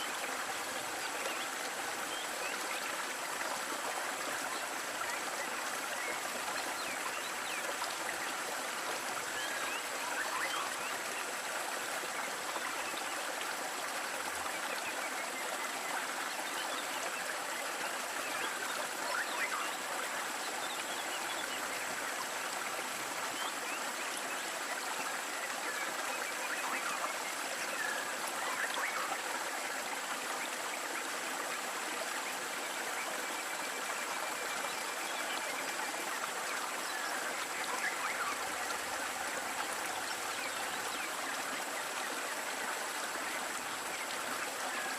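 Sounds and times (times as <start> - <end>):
small waterfall splashing: 0.0 - 44.9.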